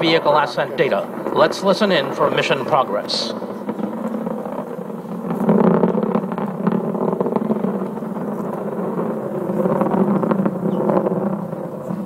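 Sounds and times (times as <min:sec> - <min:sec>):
rocket engine crackling rumble: 0:00.0 - 0:12.0.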